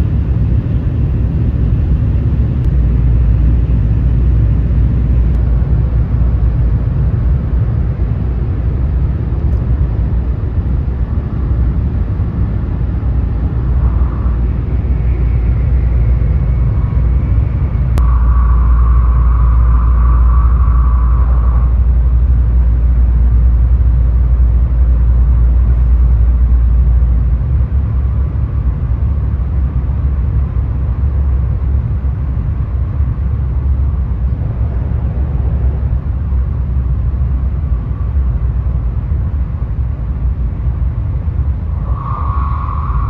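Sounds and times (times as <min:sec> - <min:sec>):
train cabin deep rumble: 0:00.0 - 0:43.0
train hum: 0:00.0 - 0:43.0.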